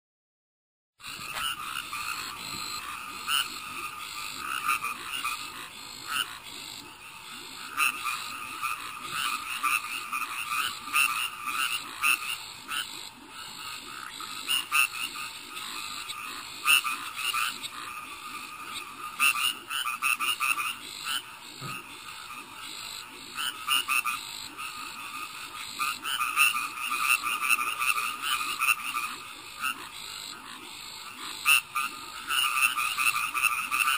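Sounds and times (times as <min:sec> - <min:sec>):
frogs and toads croaking: 0:01.0 - 0:33.9.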